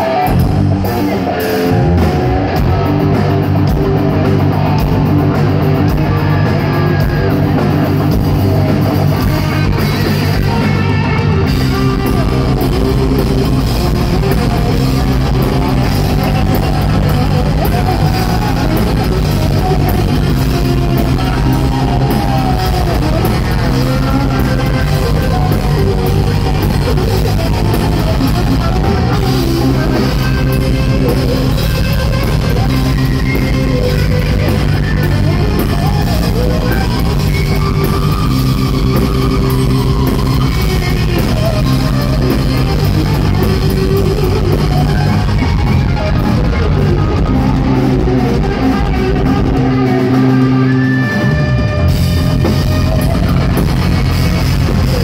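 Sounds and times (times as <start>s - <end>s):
bass guitar: 0.0s - 55.0s
distorted electric guitar lead: 0.0s - 55.0s
drum kit: 0.0s - 55.0s.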